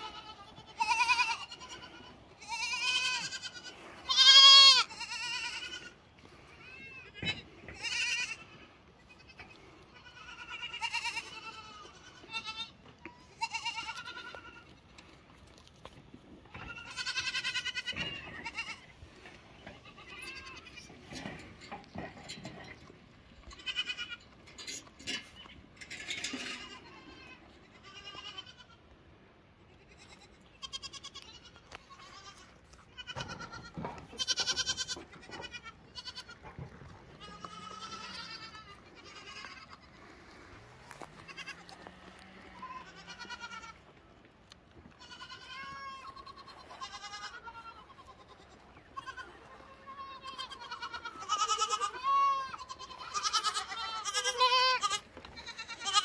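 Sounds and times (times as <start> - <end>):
goat kids bleating: 0.0 - 22.1, 22.8 - 29.0, 29.6 - 44.1, 44.7 - 56.0.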